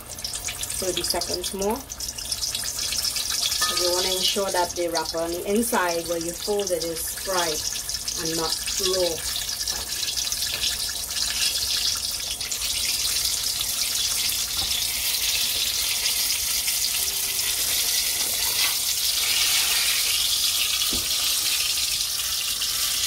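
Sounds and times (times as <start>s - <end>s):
deep-frying sizzle: 0.0s - 23.0s.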